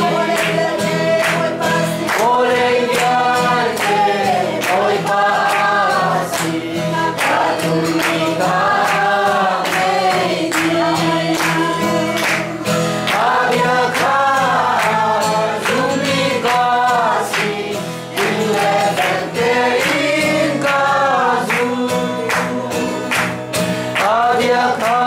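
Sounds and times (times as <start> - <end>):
group singing in chorus: 0.0 - 25.0
hand claps: 0.0 - 25.0.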